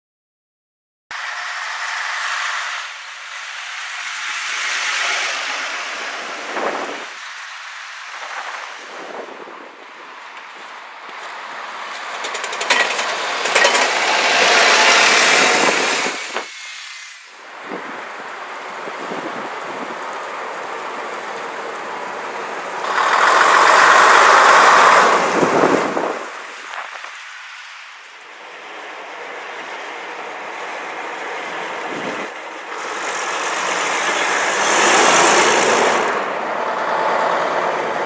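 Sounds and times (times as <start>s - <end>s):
buses and cars passing: 1.1s - 38.0s.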